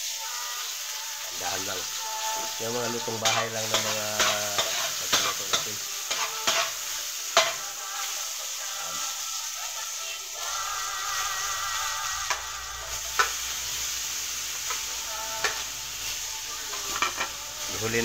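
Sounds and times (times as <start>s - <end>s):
aromatics sizzling in oil: 0.0s - 18.0s.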